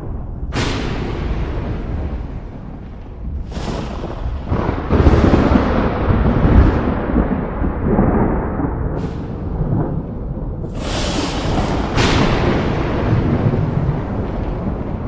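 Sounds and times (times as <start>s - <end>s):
thunder crackle: 0.0s - 15.0s
thunder rumbling: 0.0s - 15.0s.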